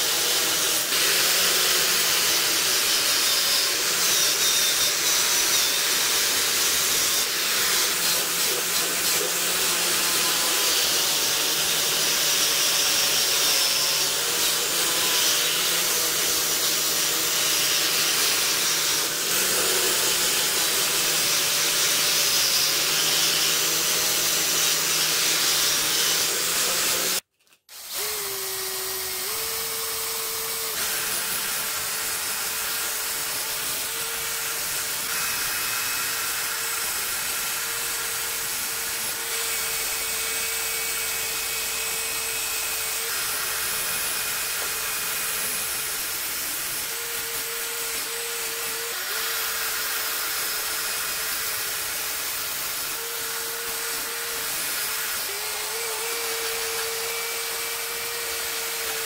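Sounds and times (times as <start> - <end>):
drill wire brush scrubbing metal: 0.0 - 27.2, 27.8 - 59.0
angle grinder wire wheel whirring: 0.0 - 59.0.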